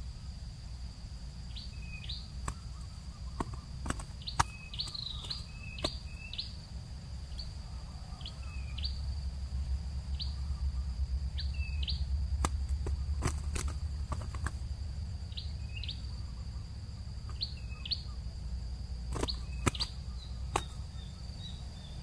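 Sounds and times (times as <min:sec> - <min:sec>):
small bird chirping: 0:01.4 - 0:22.0.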